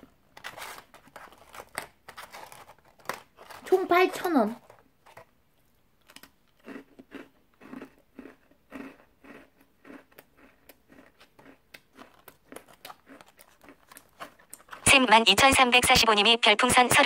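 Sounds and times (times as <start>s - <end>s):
crunchy cookie chewing: 0.0s - 14.9s.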